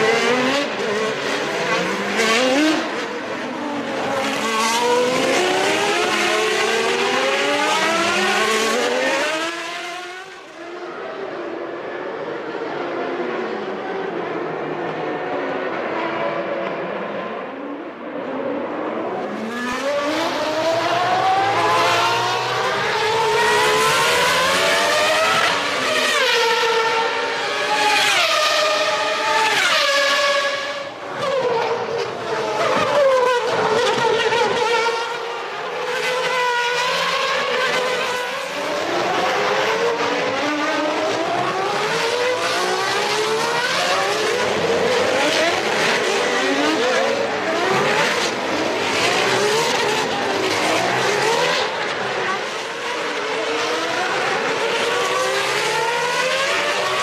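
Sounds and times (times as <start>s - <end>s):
race cars passing at high revs: 0.0s - 57.0s.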